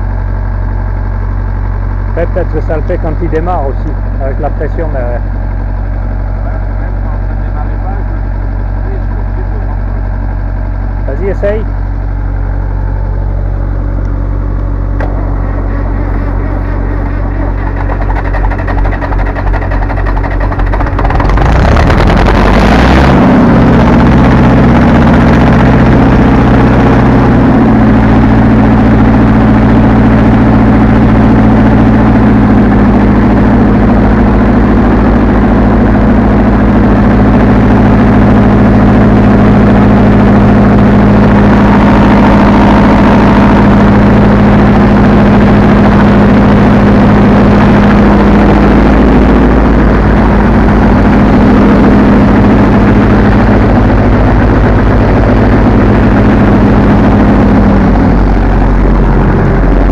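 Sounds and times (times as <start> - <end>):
quiet engine drone: 0.0 - 59.9
tractor diesel engine running: 0.0 - 59.9.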